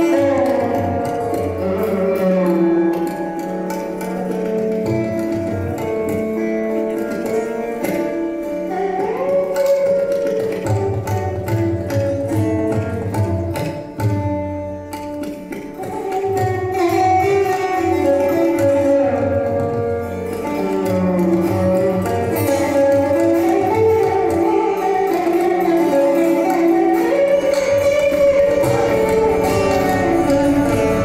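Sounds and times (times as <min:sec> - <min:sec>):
hand drums: 0:00.0 - 0:31.0
plucked string instrument: 0:00.0 - 0:31.0.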